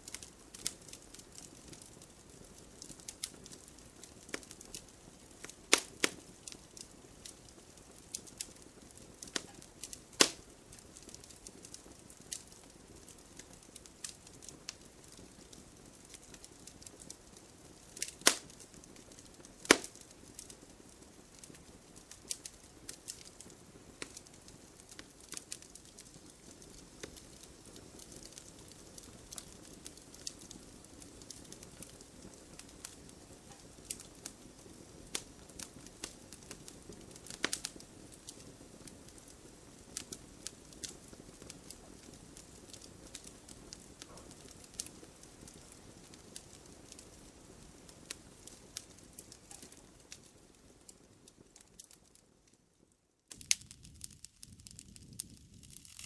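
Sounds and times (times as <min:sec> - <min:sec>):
campfire crackling and popping: 0:00.0 - 0:42.3, 0:53.3 - 0:56.0.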